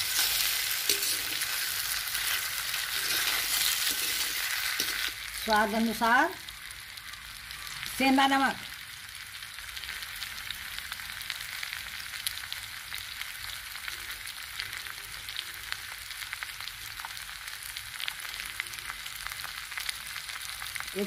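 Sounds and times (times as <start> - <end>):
taro frying in oil: 0.0 - 21.0.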